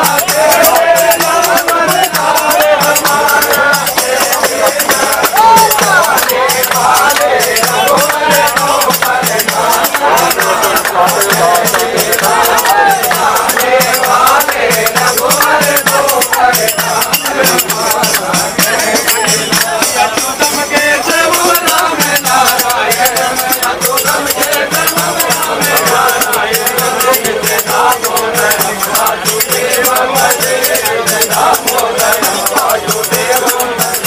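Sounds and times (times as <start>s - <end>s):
hand-claps: 0.0s - 34.0s
men singing together: 0.0s - 34.0s
rattling percussion: 0.0s - 34.0s.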